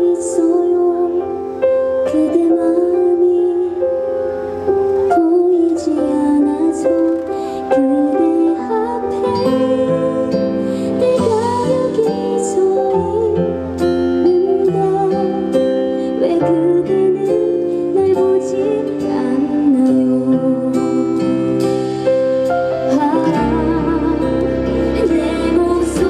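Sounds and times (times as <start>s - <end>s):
soft instrumental accompaniment: 0.0s - 26.0s
woman singing slow ballad: 0.0s - 26.0s.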